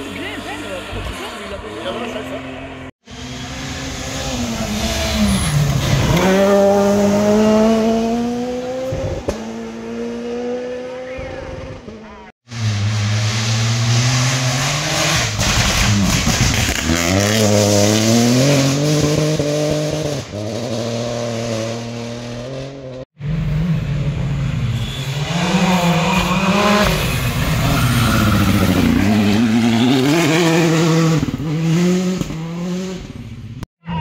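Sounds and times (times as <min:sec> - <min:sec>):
rally car engine revving: 0:00.0 - 0:33.6.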